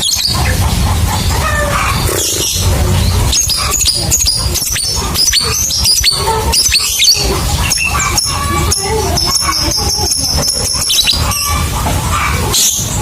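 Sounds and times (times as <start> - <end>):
lovebird chattering: 0.0 - 11.8.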